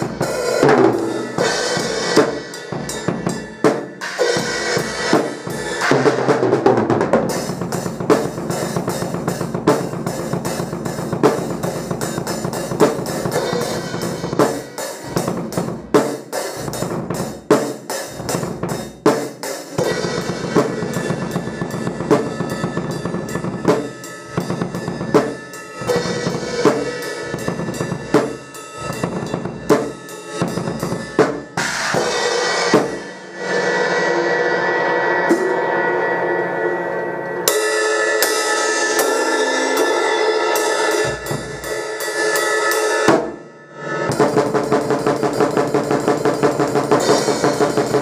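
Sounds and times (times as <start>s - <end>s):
cymbal crash: 0.0s - 6.6s, 7.2s - 16.8s, 19.6s - 45.8s, 46.9s - 48.0s.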